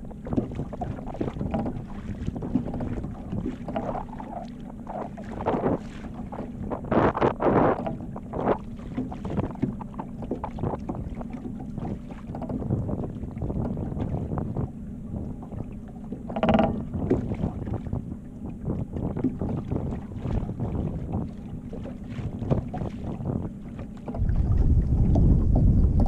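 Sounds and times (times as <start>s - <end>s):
water slapping against boat: 0.0s - 26.0s
wind buffeting microphone: 0.0s - 26.0s.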